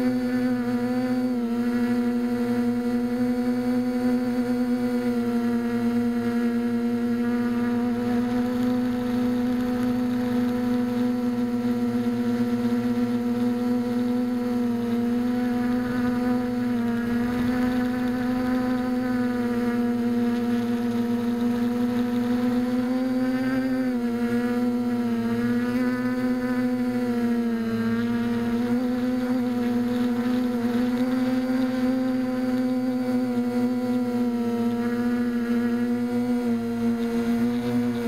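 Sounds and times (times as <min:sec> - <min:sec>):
drone motors and propellers buzzing: 0:00.0 - 0:38.0.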